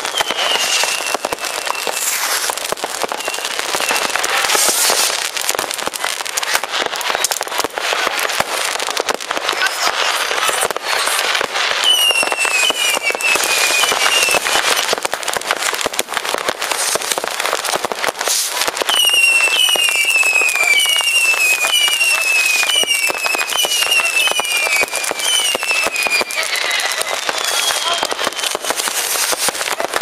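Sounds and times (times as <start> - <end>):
falling firework whistles: 0.0 - 9.2, 10.4 - 30.0
fireworks banging and crackling: 0.0 - 30.0.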